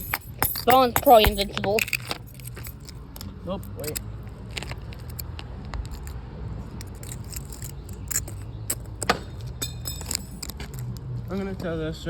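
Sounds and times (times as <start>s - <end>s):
handcuffs clicking: 0.0s - 11.0s.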